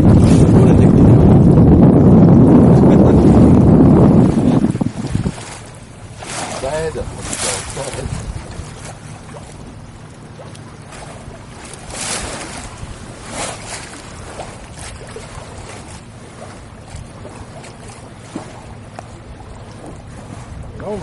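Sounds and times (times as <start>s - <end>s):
steady low hum: 0.0s - 21.0s
water washing along boat hull: 0.0s - 21.0s
wind on microphone: 0.0s - 21.0s.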